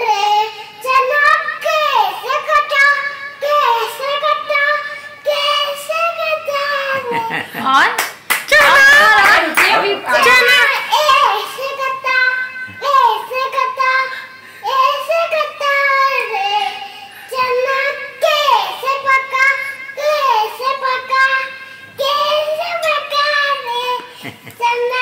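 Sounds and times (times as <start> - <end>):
young girl singing: 0.0 - 7.5, 9.7 - 25.0.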